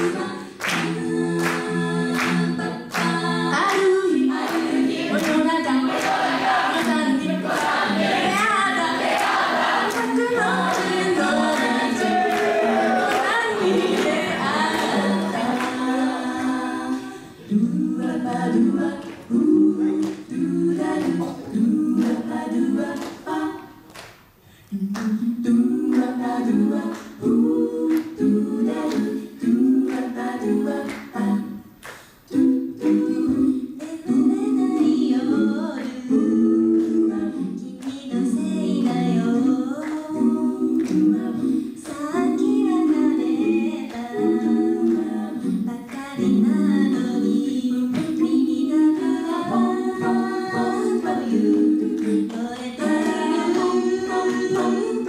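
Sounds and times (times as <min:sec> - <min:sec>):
women singing a cappella harmony: 0:00.0 - 0:55.0.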